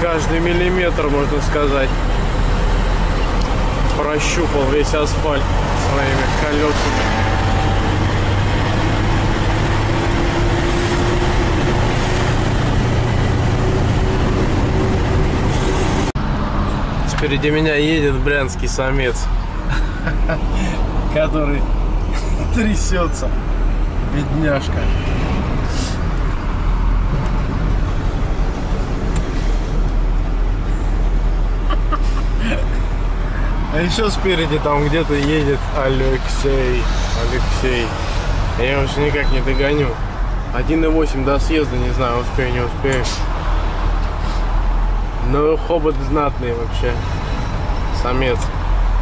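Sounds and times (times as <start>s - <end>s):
road and tyre noise: 0.0s - 49.0s
truck engine drone: 0.0s - 49.0s.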